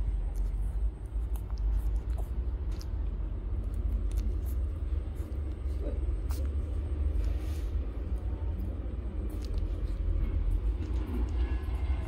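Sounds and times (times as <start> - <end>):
low rumble: 0.0 - 12.0
puppies suckling: 0.0 - 12.0.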